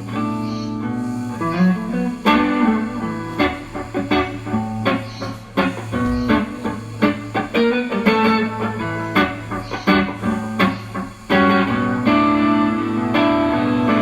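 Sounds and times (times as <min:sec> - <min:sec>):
picked guitar notes: 0:00.0 - 0:14.0
strummed guitar chords: 0:00.0 - 0:14.0.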